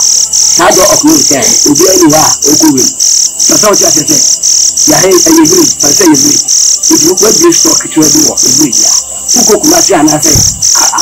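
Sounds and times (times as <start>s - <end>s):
crickets chirping: 0.0s - 11.0s
man talking: 0.6s - 11.0s.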